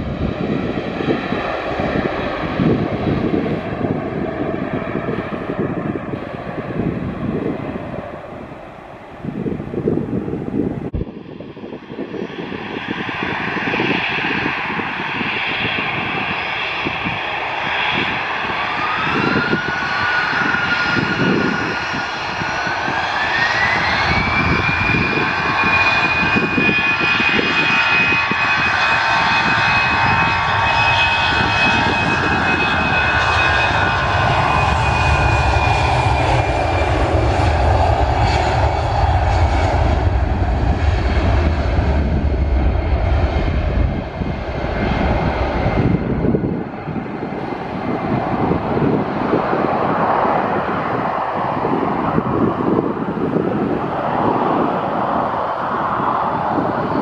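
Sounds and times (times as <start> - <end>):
jet engine whine: 0.0 - 57.0
low rumble of aircraft: 0.0 - 57.0.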